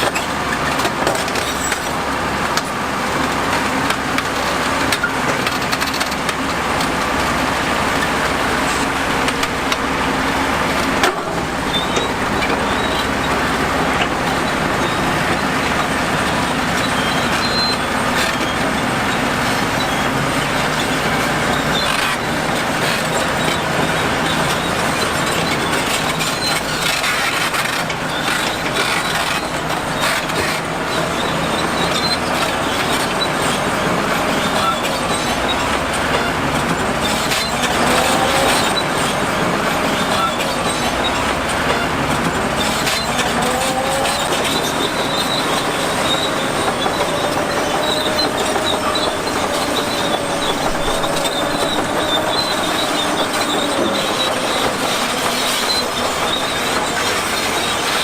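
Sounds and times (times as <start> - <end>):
bulldozer engine: 0.0 - 58.0
steel tracks clanking and squealing: 0.0 - 58.0.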